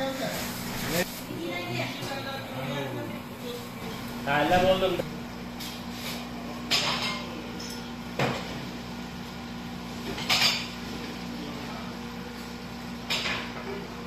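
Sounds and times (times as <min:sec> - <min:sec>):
steady low hum: 0:00.4 - 0:13.2.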